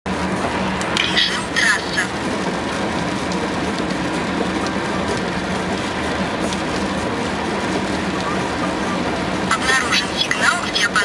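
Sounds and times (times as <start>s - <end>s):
car cabin road and engine noise: 0.1s - 11.0s.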